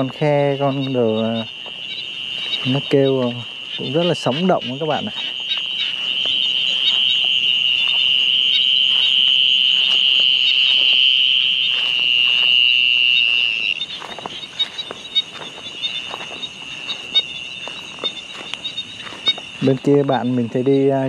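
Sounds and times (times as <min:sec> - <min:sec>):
footsteps brushing through grass: 0:00.0 - 0:20.6
high-pitched trill of night creatures: 0:00.0 - 0:21.0.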